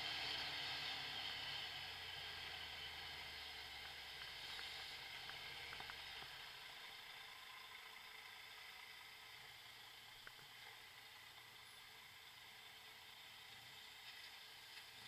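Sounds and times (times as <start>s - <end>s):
motorcycle riding noise hiss: 0.0s - 15.0s.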